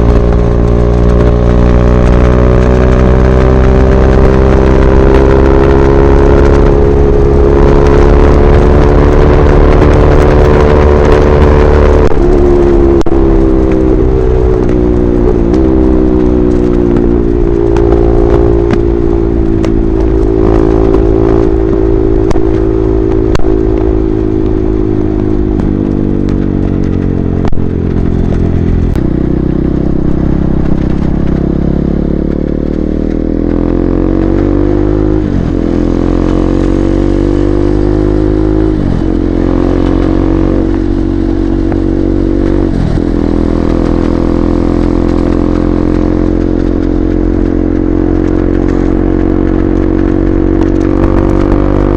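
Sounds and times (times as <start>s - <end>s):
gear changes: 0.0s - 51.9s
motorcycle engine at speed: 0.0s - 51.9s.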